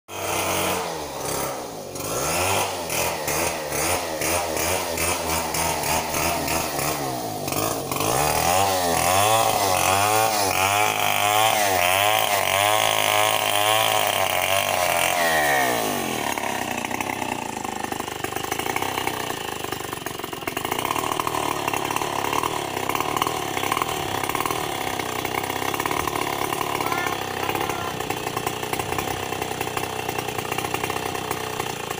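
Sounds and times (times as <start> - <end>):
chainsaw cutting into tree: 0.1 - 31.9.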